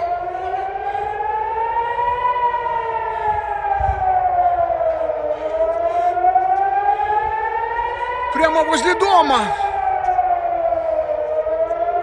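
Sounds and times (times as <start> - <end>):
air-raid siren wailing: 0.0 - 12.0.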